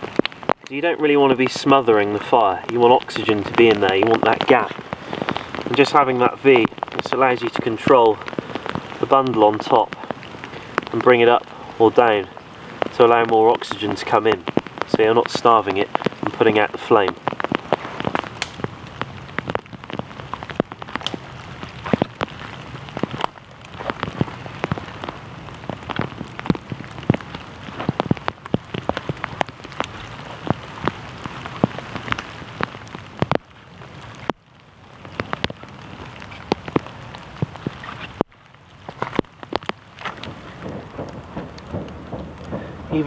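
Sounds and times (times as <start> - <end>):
fire hissing: 0.0 - 43.0
small fire crackling: 0.0 - 43.0.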